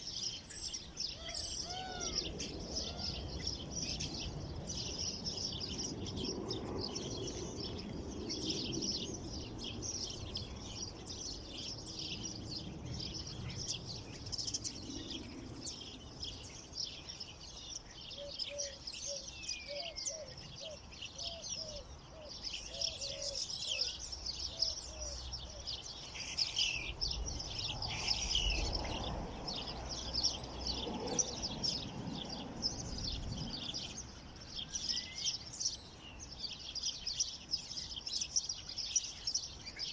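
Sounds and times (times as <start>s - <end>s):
lower repeated bird calls: 0.0s - 39.9s
songbirds chirping chorus: 0.0s - 39.9s.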